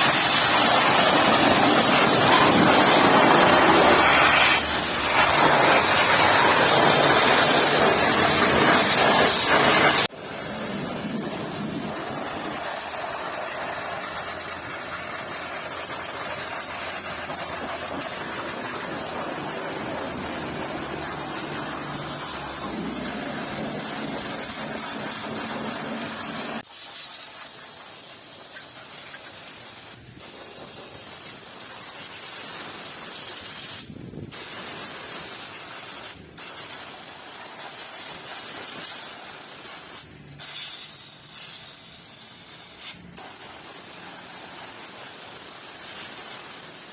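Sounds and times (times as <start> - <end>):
pressure spray gun hissing: 0.0 - 46.9.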